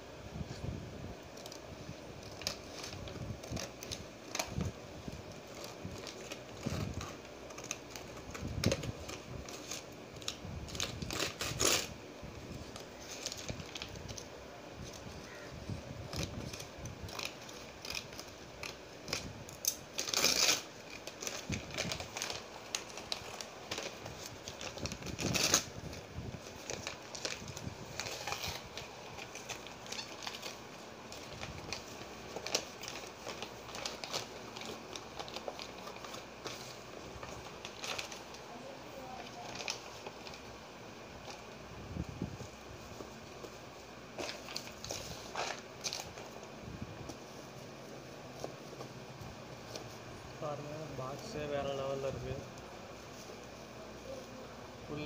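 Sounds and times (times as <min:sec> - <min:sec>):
paper rustling and crinkling: 0:01.3 - 0:40.5, 0:41.1 - 0:55.0.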